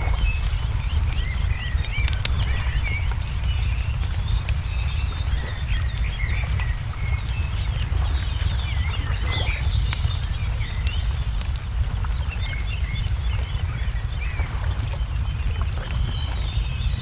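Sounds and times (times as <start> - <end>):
small birds chirping: 0.0 - 17.0
steady low rumble: 0.0 - 17.0
wood fire crackling: 0.0 - 17.0.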